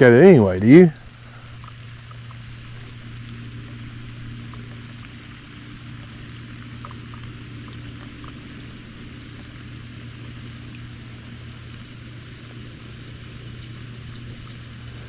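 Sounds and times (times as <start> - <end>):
boat motor humming: 0.0 - 15.0
faint small ticks: 1.0 - 15.0.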